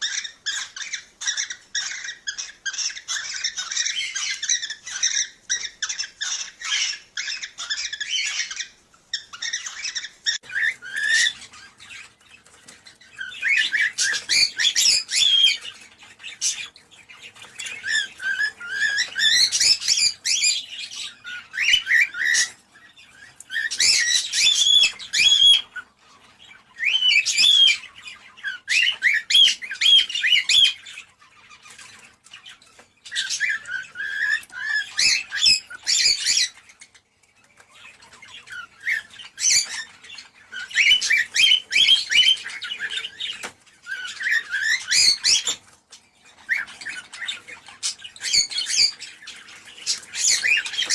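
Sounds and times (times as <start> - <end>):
cockatiels chirping and squawking: 0.0 - 50.9.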